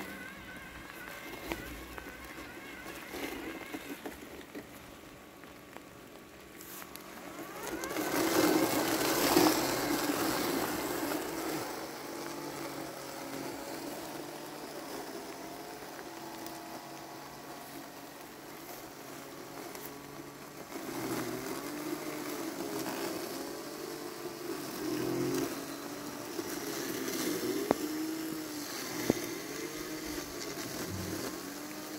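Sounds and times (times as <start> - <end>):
robotic lawn mower motors whining: 0.0 - 31.9.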